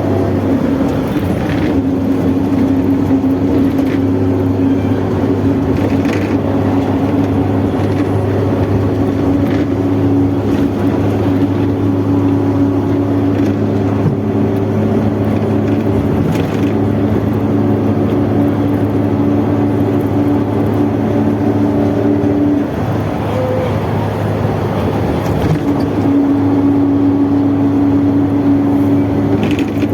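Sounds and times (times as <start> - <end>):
bus diesel engine droning: 0.0 - 29.9.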